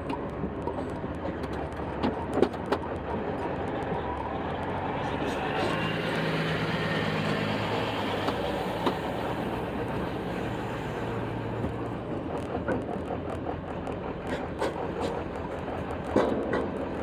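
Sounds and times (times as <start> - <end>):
diesel truck engine drone: 0.0 - 17.0
trailer rattling and clanking: 0.1 - 17.0.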